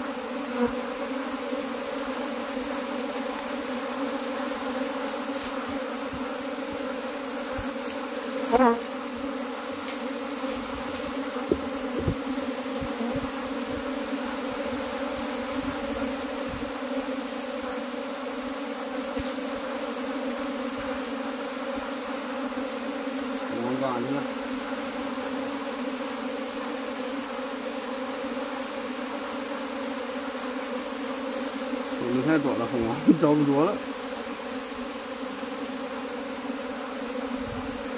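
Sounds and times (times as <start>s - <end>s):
honey bees droning: 0.0s - 37.9s.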